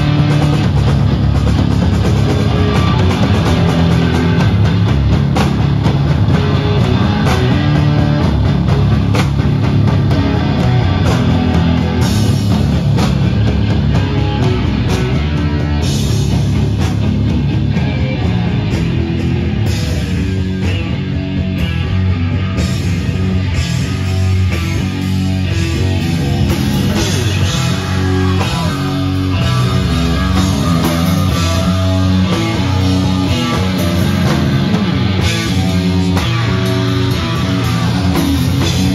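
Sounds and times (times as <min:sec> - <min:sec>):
heavy metal band playing live: 0:00.0 - 0:38.9.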